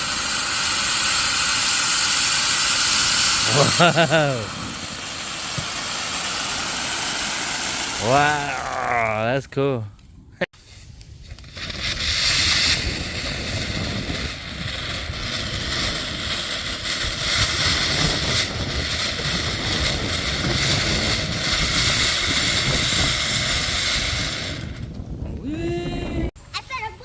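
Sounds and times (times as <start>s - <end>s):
firework fountain hissing: 0.0s - 9.8s, 10.5s - 25.2s.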